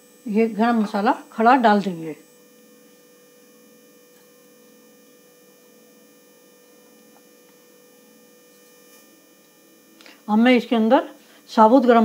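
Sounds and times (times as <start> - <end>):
faint electrical hum: 0.0 - 12.0
thin high whines: 0.0 - 12.0.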